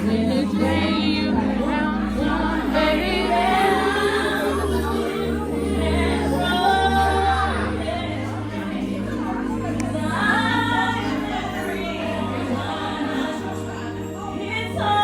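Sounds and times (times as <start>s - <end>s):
loud music with singing: 0.0s - 15.0s
voices underneath music: 0.0s - 15.0s.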